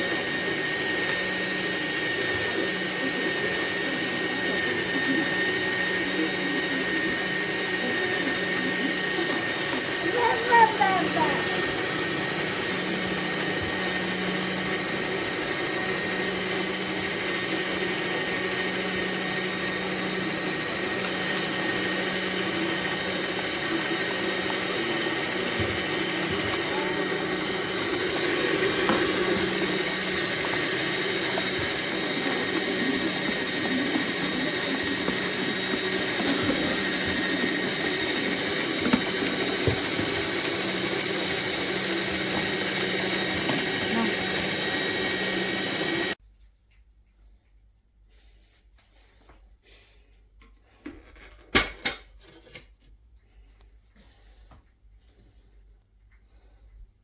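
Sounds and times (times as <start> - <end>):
juicer motor humming: 0.0 - 46.2.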